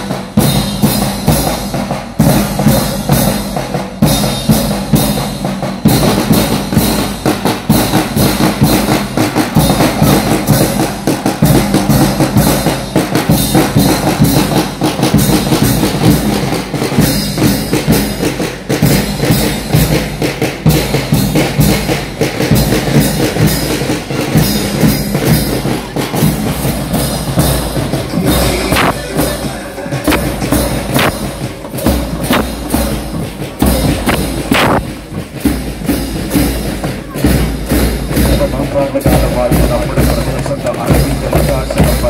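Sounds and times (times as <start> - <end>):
bass drums: 0.0 - 42.0
cymbals clashing: 0.0 - 42.0
snare drums: 0.0 - 42.0.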